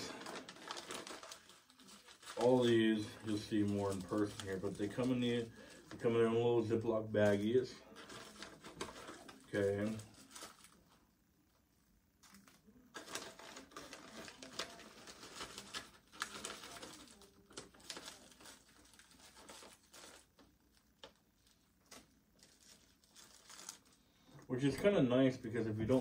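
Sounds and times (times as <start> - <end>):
plastic bags crinkling: 0.0 - 11.0, 12.2 - 25.0.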